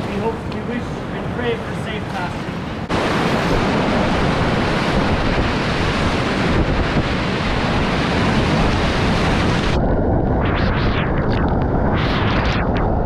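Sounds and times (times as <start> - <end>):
wind buffeting microphone: 2.3 - 13.0.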